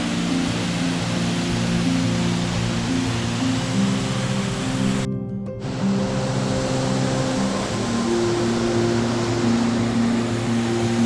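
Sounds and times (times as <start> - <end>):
slow melody music: 0.0 - 11.0
waterfall rushing: 0.0 - 11.0.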